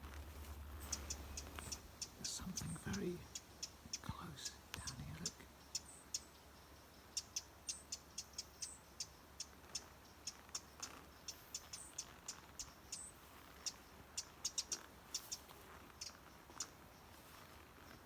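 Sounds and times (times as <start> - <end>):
small bird chirping: 0.4 - 18.0.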